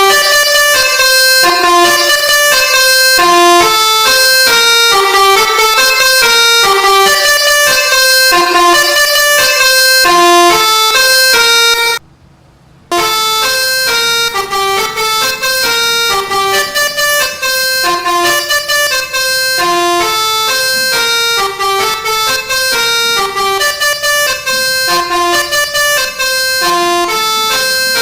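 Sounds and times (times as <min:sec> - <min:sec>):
multi-tone bus air horn melody: 0:00.0 - 0:12.0, 0:12.9 - 0:28.0.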